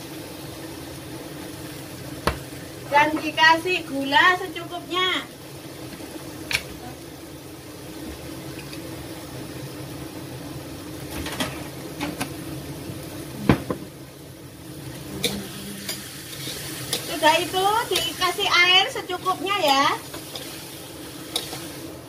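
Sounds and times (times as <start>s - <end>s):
food simmering in a pot: 0.0s - 22.0s.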